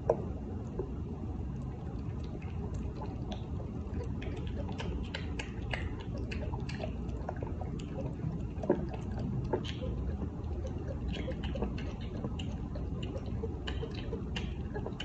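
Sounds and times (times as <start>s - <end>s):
kitten suckling wet clicks: 1.6s - 15.0s.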